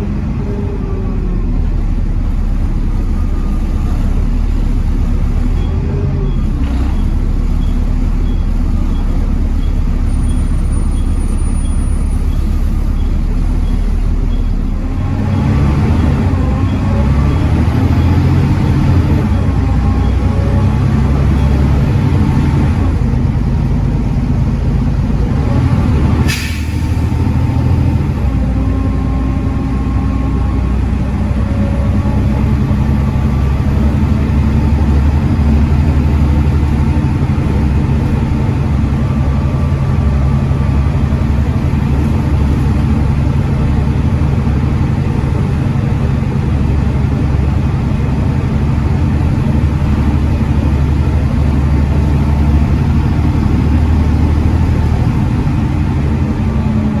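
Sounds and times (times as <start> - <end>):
diesel bus engine: 0.0 - 57.0.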